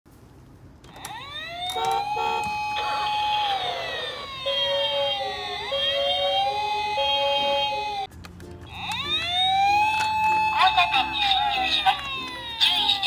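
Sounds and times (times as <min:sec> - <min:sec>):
two-tone siren: 0:00.9 - 0:08.1, 0:08.7 - 0:13.0
wailing siren: 0:00.9 - 0:08.1, 0:08.7 - 0:13.0.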